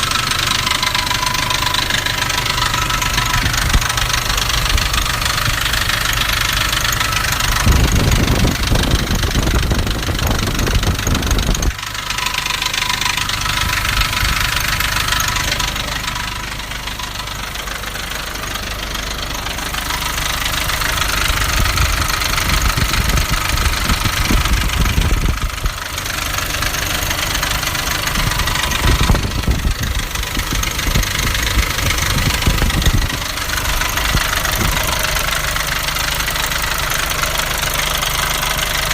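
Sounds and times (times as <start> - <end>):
diesel engine knocking rattle: 0.0 - 38.9.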